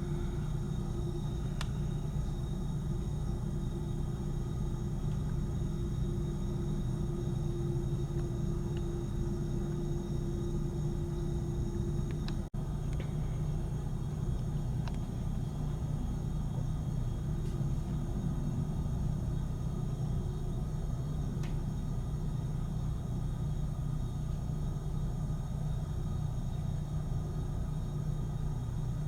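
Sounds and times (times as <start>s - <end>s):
jet engines rumbling: 0.0s - 24.5s
high-pitched whine: 0.0s - 28.9s.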